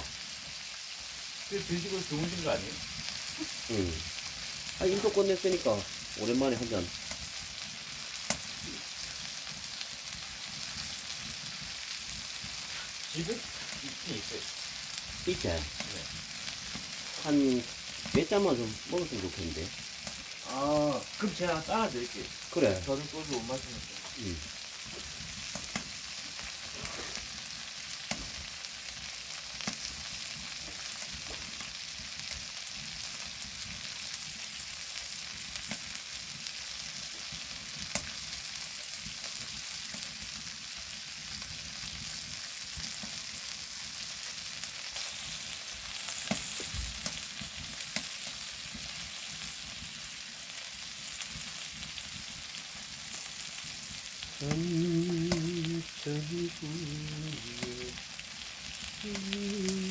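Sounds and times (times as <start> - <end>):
meat sizzling on stone grill: 0.0 - 59.9.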